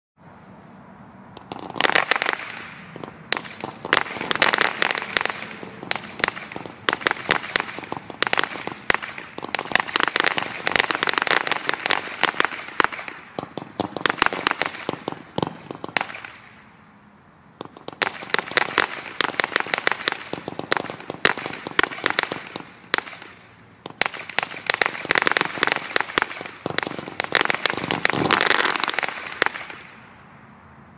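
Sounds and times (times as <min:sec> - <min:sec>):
fireworks popping rapidly: 0:01.4 - 0:16.5, 0:17.6 - 0:29.9.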